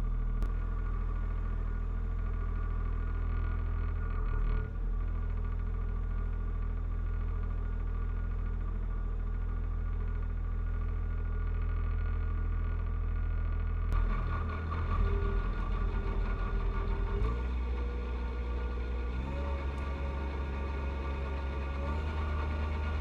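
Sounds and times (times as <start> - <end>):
diesel tractor engine idling: 0.0 - 23.0.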